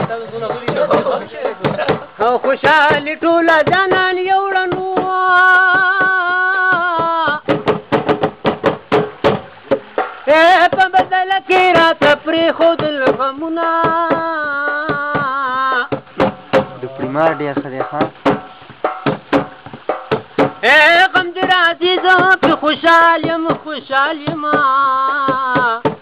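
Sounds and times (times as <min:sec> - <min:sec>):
man singing folk song: 0:00.0 - 0:07.5, 0:10.2 - 0:18.4, 0:20.4 - 0:26.0
hand percussion taps: 0:00.0 - 0:26.0.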